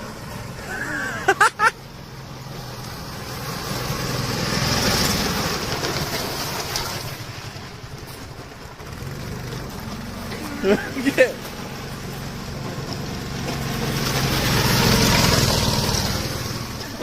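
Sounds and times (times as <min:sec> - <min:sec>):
small car driving past: 0:00.0 - 0:17.0.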